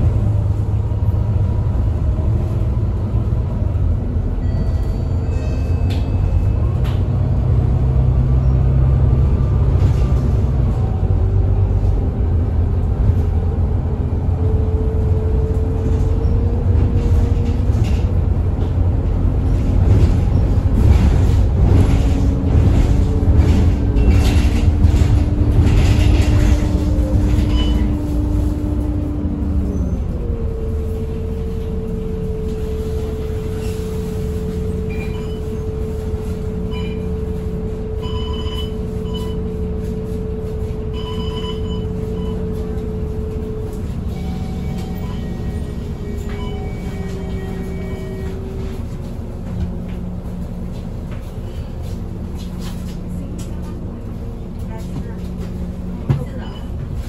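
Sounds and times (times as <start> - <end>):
bus diesel engine rumble: 0.0 - 57.0.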